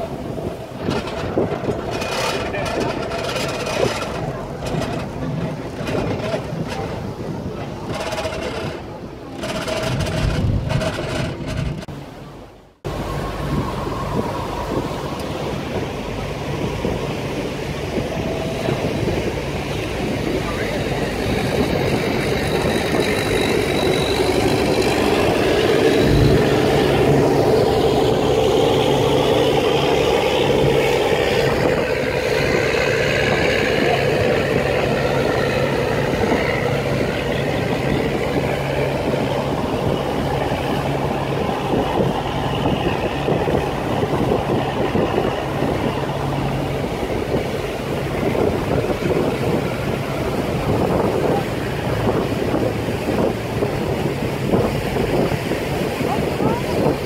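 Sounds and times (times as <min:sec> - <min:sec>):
boat engines droning: 0:00.0 - 0:57.0
rushing water: 0:00.0 - 0:57.0
wind: 0:00.0 - 0:57.0.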